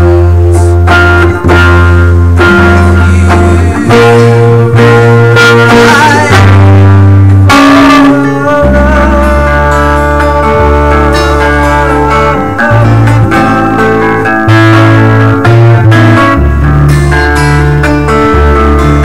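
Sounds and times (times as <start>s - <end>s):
bass guitar: 0.0s - 19.0s
electric guitars playing chords: 0.0s - 19.0s
wavering guitar note: 0.0s - 19.0s.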